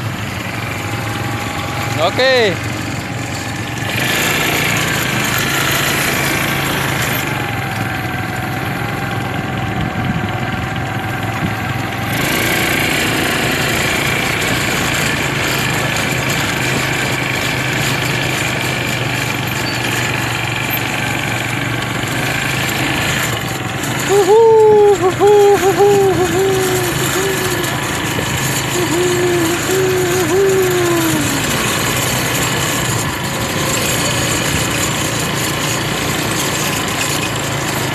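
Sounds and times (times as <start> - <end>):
quad bike engines running: 0.0 - 37.9.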